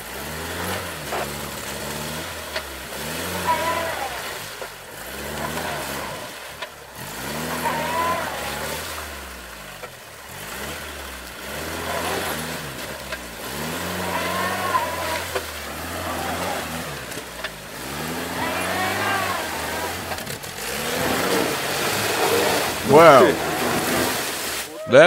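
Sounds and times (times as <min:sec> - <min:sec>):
jeep engine revving: 0:00.0 - 0:25.0.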